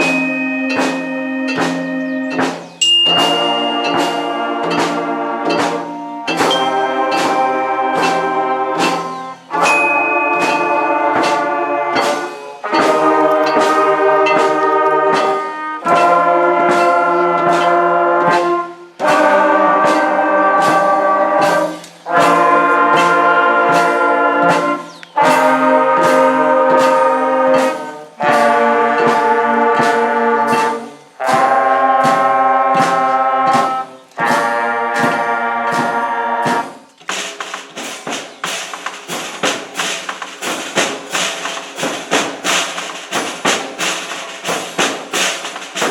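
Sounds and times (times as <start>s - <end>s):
steady percussion beat: 0.0s - 45.9s
wind band brass chords: 0.0s - 45.9s.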